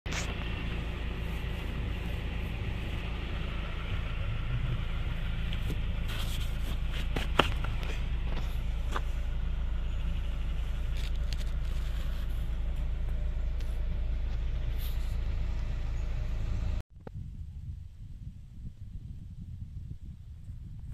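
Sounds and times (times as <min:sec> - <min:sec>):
car engine idling: 0:00.1 - 0:16.8.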